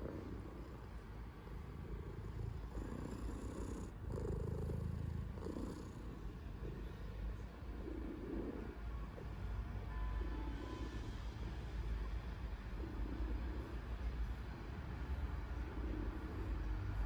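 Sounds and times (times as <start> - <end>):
cat purring loudly: 0.0 - 9.4, 12.7 - 17.0.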